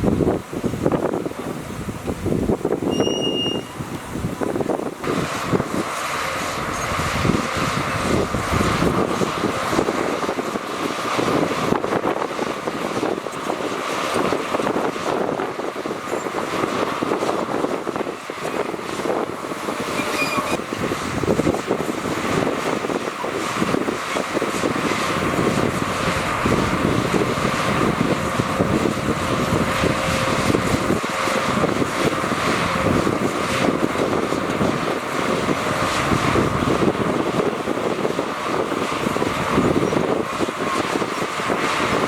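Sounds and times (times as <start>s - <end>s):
heavy machinery diesel engine: 0.0s - 42.0s
wind noise on microphone: 0.0s - 42.0s.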